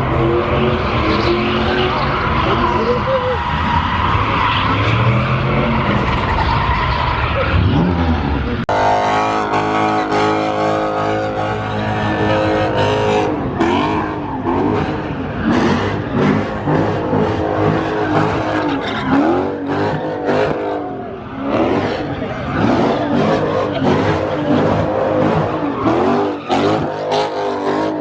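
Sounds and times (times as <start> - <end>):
car engine revving: 0.0 - 28.0
tires squealing: 0.0 - 28.0.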